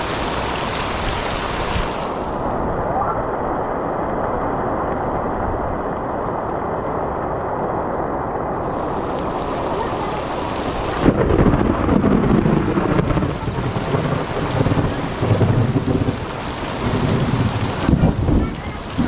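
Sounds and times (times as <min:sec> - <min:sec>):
heavy rain falling: 0:00.0 - 0:19.0
low rumbling: 0:00.0 - 0:19.0.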